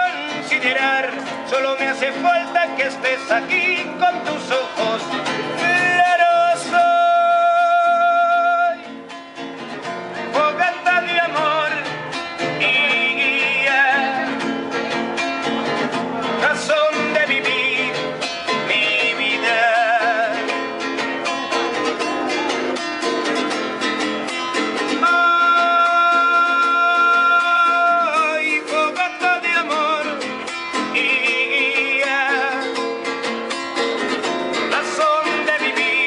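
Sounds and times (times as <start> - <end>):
acoustic guitar: 0.0 - 36.0
man singing with vibrato: 0.0 - 36.0.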